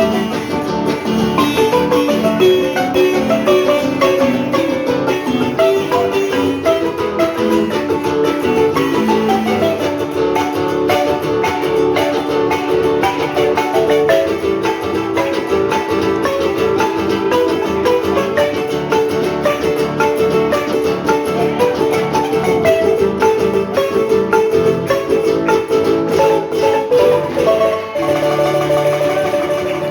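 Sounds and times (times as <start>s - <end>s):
marimba played with mallets: 0.0s - 29.9s.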